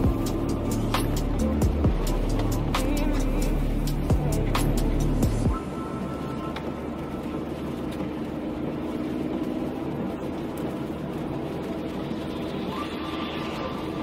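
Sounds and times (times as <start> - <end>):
car interior engine and tyre noise: 0.0 - 14.0.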